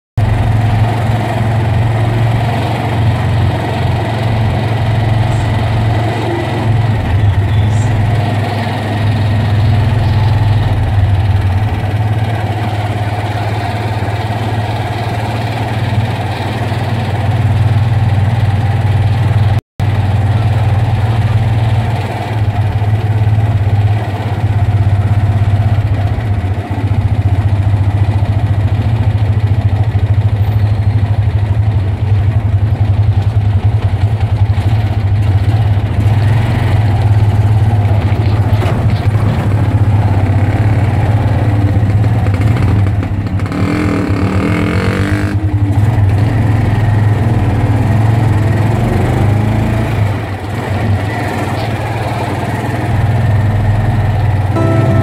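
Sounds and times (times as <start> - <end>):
motorcycle engine running: 0.2 - 55.0.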